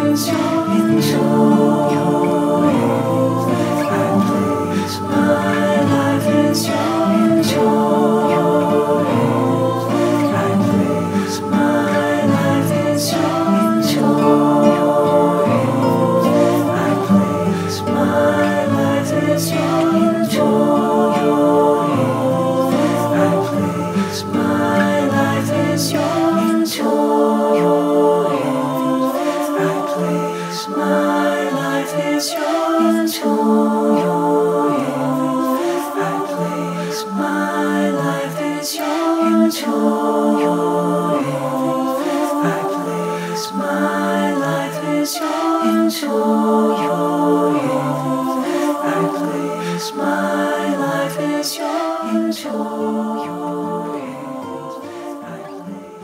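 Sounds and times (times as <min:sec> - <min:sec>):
voices singing a hymn: 0:00.0 - 0:56.0.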